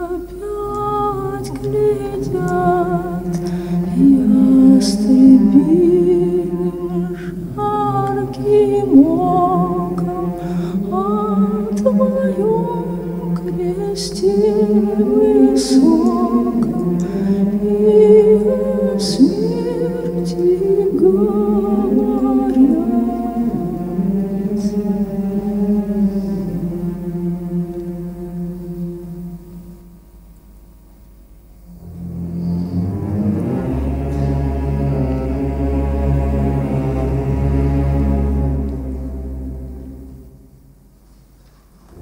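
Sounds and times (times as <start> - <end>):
wordless voices holding notes: 0.0 - 30.1, 31.6 - 40.6
steady low drone: 0.0 - 41.0.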